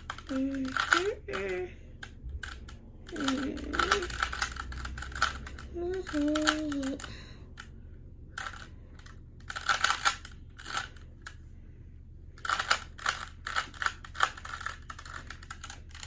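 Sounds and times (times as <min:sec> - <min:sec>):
puzzle cube clicking turns: 0:00.0 - 0:07.7, 0:08.3 - 0:11.4, 0:12.4 - 0:16.0
low hum: 0:00.0 - 0:16.0.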